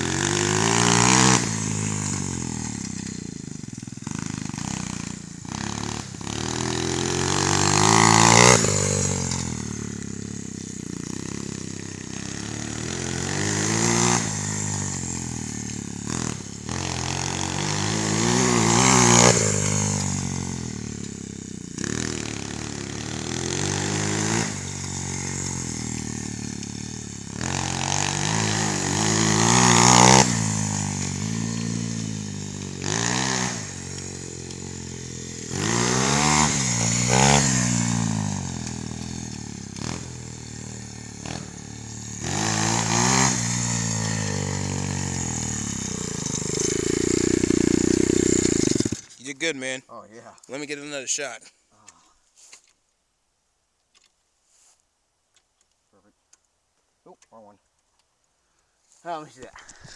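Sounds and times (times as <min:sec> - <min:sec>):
pit bike engine revving: 0:00.0 - 0:49.8, 0:59.5 - 0:59.9.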